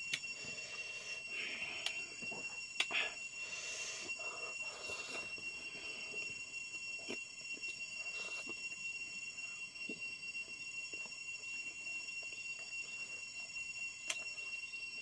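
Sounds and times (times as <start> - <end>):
high-pitched ringing tone: 0.0 - 15.0.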